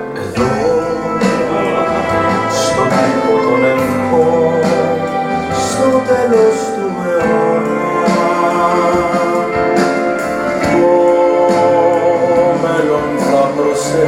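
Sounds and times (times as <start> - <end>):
slow instrumental music: 0.0 - 14.0.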